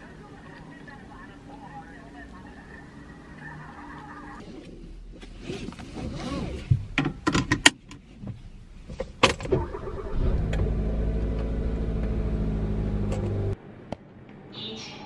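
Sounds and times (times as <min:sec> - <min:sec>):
car engine starting and idling: 0:00.0 - 0:13.6.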